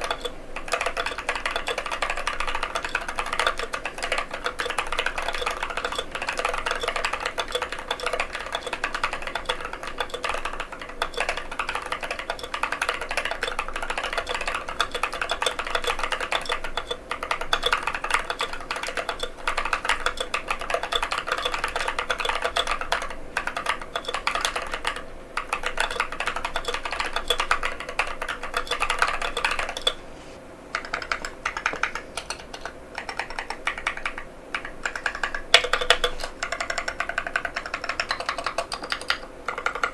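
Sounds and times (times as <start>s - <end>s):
mechanical keyboard typing: 0.0s - 30.0s, 30.7s - 39.9s.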